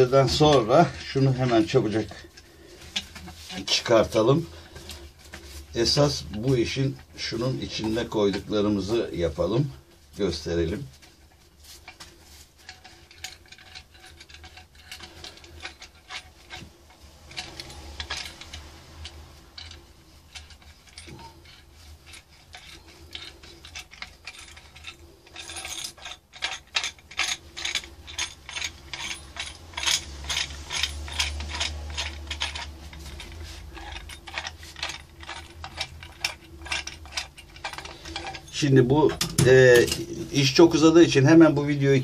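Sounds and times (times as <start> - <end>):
hand tools clicking and rattling: 0.0 - 42.0.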